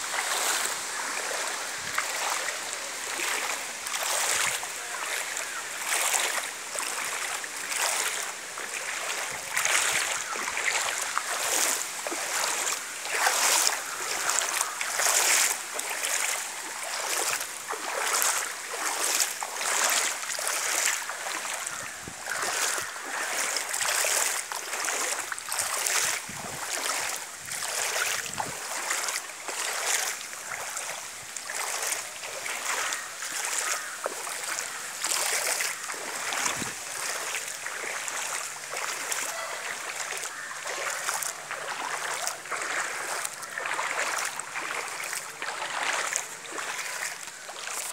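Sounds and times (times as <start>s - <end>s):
floodwater rushing and splashing: 0.0s - 47.9s.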